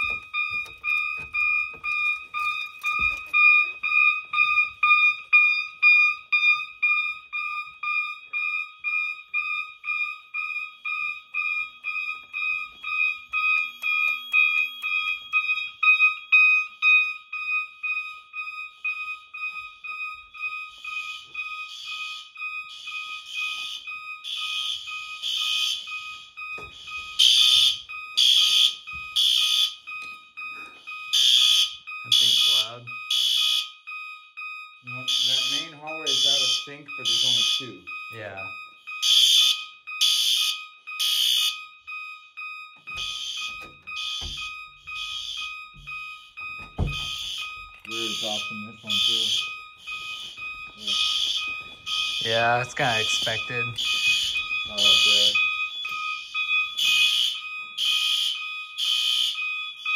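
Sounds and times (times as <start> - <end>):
fire alarm horns pulsing: 0.0 - 59.9.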